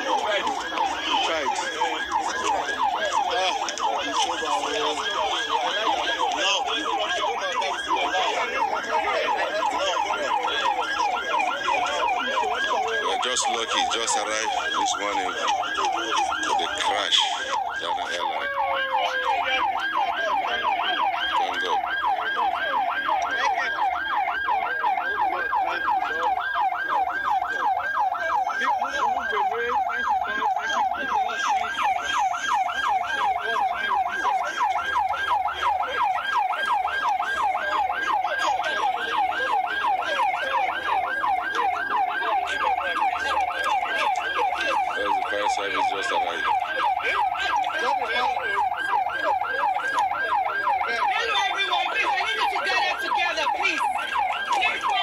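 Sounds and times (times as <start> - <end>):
emergency siren yelping: 0.0 - 55.0.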